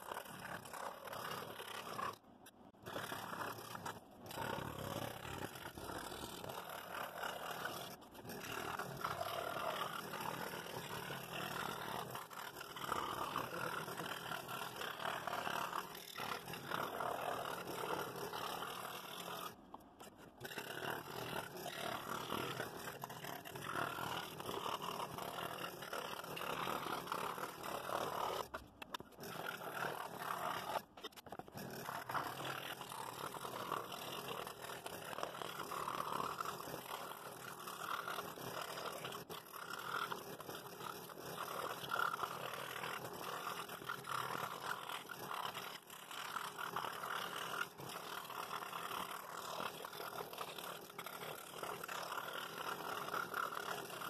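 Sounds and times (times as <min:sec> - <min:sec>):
scroll saw cutting wood: 0:00.0 - 0:54.0.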